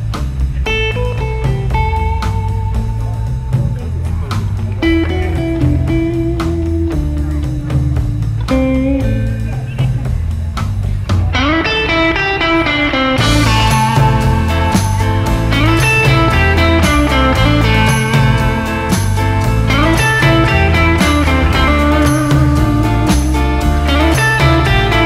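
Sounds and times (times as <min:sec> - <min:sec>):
blues rock music: 0:00.0 - 0:25.0.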